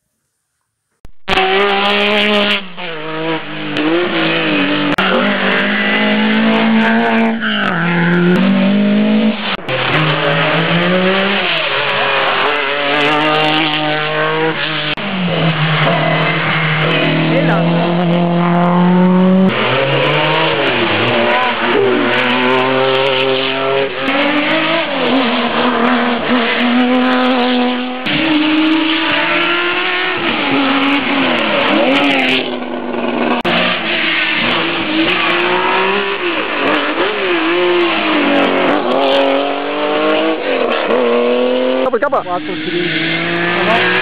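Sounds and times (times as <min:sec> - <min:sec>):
rally cars revving past: 0:01.3 - 0:44.0.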